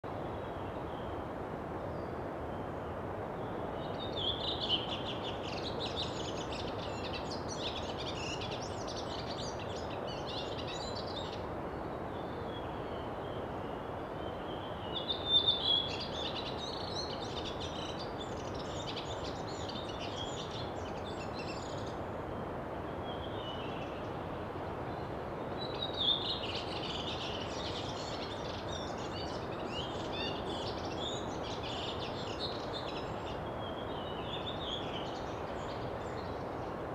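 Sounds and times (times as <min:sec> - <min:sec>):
steady background hiss: 0:00.1 - 0:36.9.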